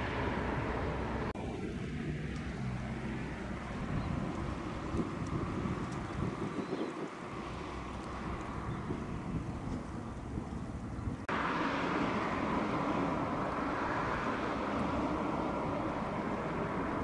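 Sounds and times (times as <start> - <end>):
vehicle rumble and hiss: 0.0 - 17.0.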